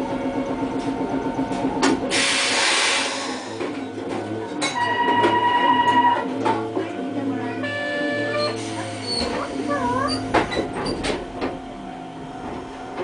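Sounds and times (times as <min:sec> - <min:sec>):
streetcar equipment running: 0:00.0 - 0:13.0.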